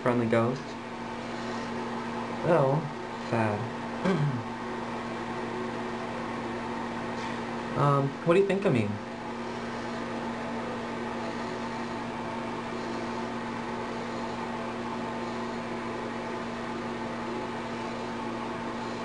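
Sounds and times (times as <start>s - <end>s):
steady hum with hiss: 0.0s - 19.0s.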